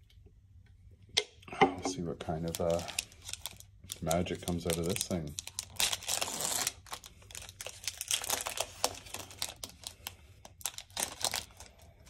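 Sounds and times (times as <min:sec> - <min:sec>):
foil wrapper crinkling and tearing: 0:02.2 - 0:12.0.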